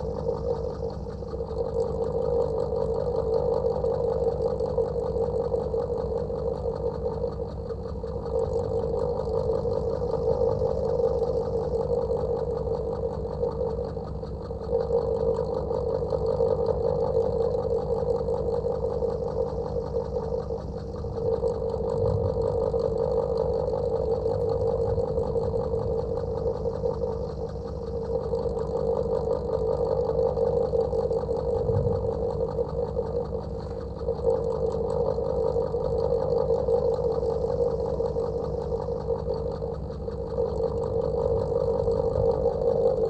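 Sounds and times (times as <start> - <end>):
electric fan motor hum: 0.0 - 43.0.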